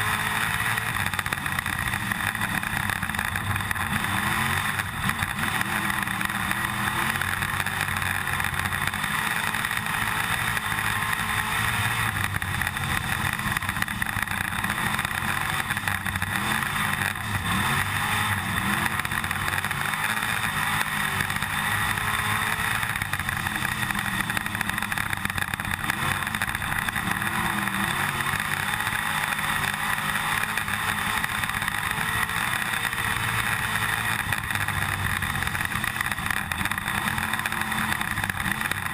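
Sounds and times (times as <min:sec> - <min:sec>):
car and camera rattling: 0:00.0 - 0:38.9
race car engine running hard: 0:00.0 - 0:38.9.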